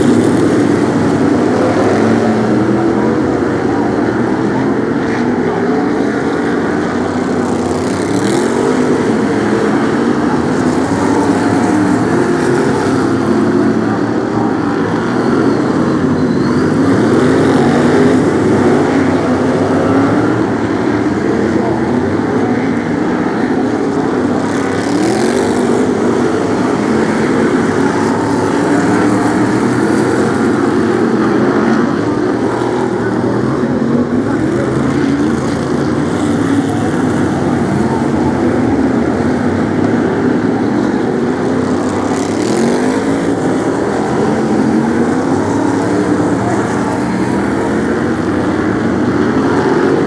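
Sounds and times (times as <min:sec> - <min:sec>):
stock car engines revving: 0:00.0 - 0:50.0.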